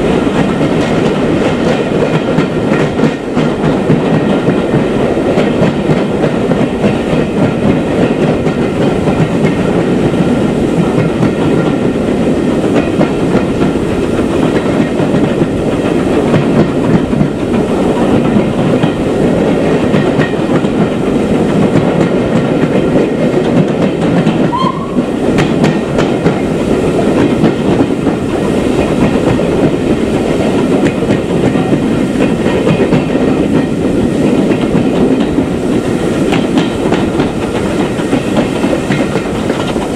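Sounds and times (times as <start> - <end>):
train rumbling along track: 0.0 - 39.9
wheels clicking over rail joints: 0.0 - 39.9.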